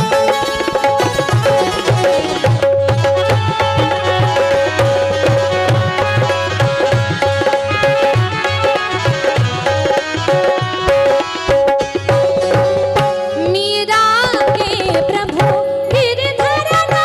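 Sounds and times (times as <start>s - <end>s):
tabla playing a rhythm: 0.0s - 17.0s.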